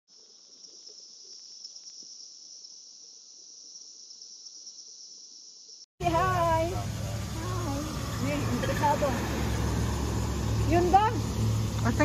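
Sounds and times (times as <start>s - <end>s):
high-pitched insect chorus: 0.1s - 12.0s.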